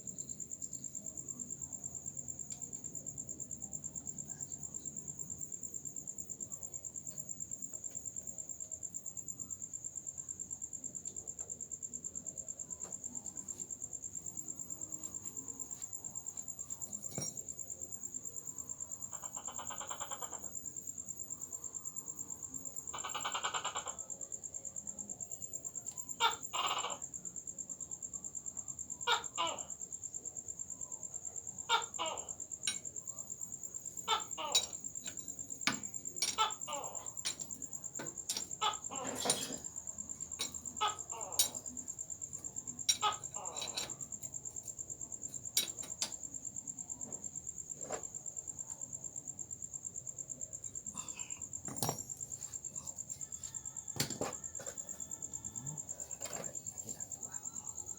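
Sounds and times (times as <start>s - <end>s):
insect trill: 0.0s - 57.9s.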